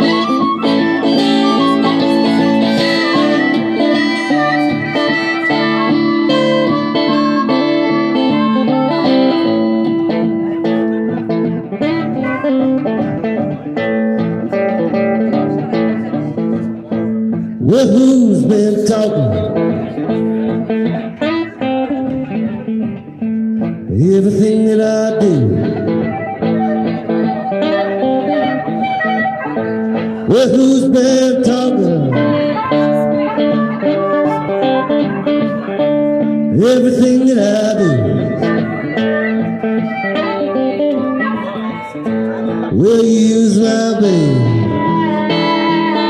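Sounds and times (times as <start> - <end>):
man singing: 0.0 - 13.2, 17.0 - 28.8, 29.9 - 46.0
harmonica: 0.0 - 16.7, 25.3 - 46.0
acoustic guitar playing: 0.0 - 46.0.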